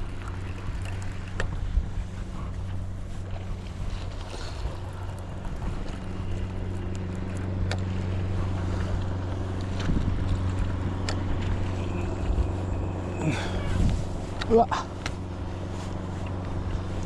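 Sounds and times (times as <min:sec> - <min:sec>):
low motor hum: 0:00.0 - 0:17.0
wind noise: 0:00.0 - 0:17.0.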